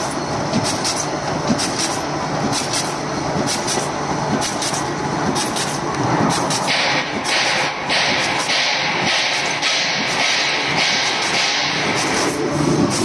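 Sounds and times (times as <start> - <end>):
sharp mechanical clacks: 0.0 - 13.0
slotter machine rumble: 0.0 - 13.0.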